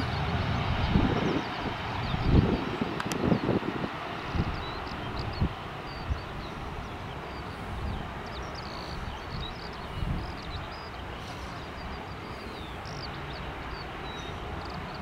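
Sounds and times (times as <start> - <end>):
jet engines hiss and rumble: 0.0 - 15.0
small birds chirping: 0.0 - 15.0.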